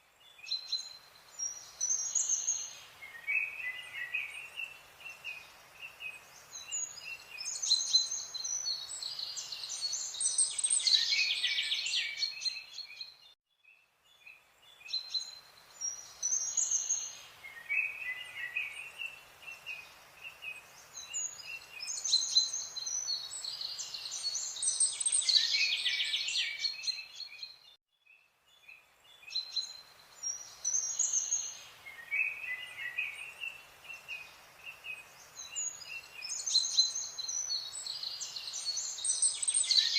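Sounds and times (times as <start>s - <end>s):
faint background hiss: 0.0s - 39.9s
birds chirping and trilling: 0.2s - 13.4s, 14.1s - 27.8s, 28.5s - 39.9s.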